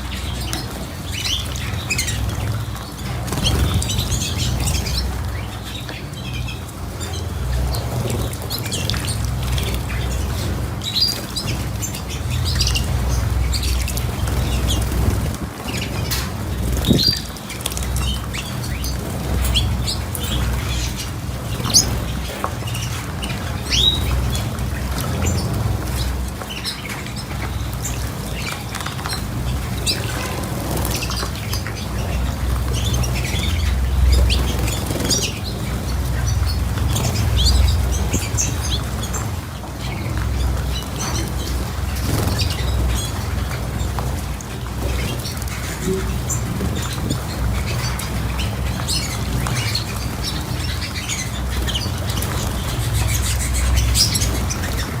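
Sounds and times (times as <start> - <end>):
small birds chirping: 0.0 - 55.0
wings fluttering: 0.0 - 55.0.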